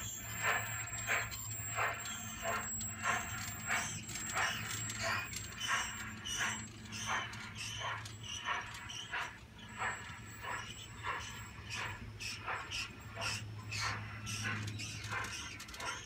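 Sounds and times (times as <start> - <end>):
model train clacking on track: 0.0 - 16.0
steady low hum: 0.0 - 16.0.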